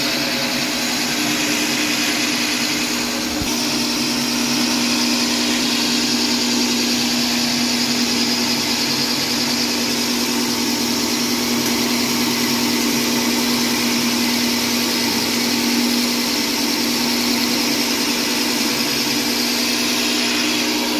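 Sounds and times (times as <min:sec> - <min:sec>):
electric lawn mower humming: 0:00.0 - 0:20.9.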